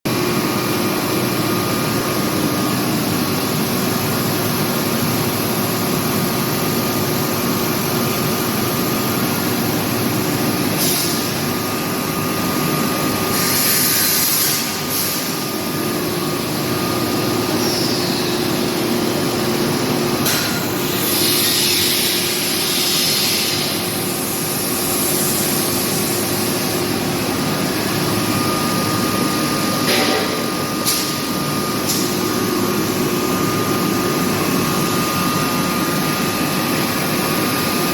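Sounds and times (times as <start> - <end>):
welding machine hum: 0.1 - 37.9.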